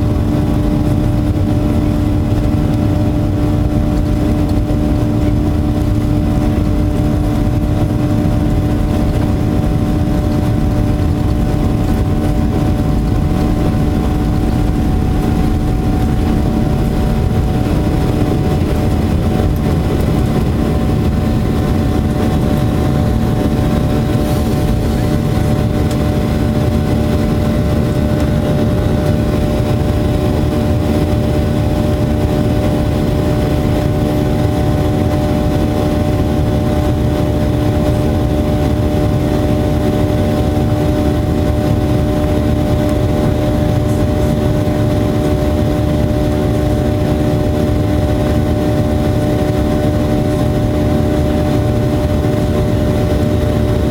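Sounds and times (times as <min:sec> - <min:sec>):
jet engine drone in cabin: 0:00.0 - 0:53.9
low hum: 0:00.0 - 0:53.9.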